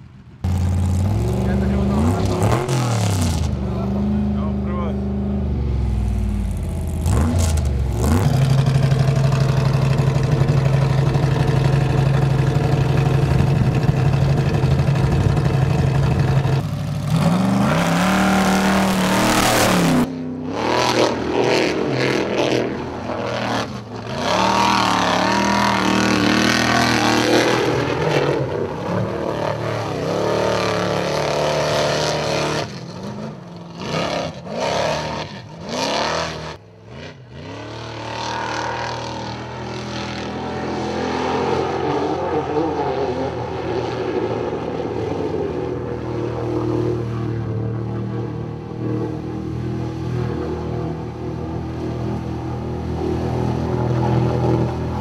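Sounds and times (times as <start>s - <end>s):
buggy engine revving: 0.0s - 55.0s.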